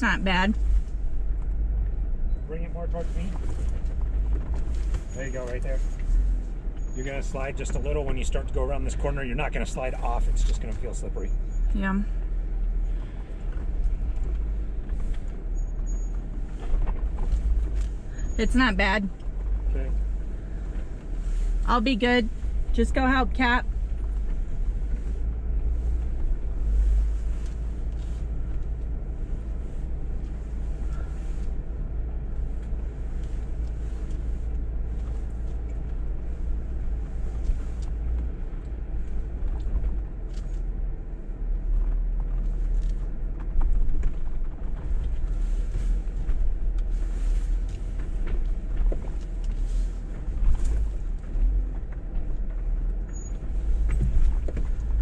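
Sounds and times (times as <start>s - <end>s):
engine low rumble: 0.0s - 55.0s.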